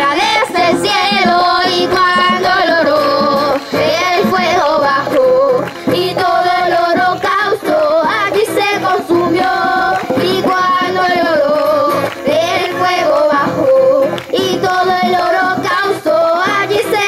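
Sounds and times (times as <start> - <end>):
voices singing with music: 0.0 - 17.0.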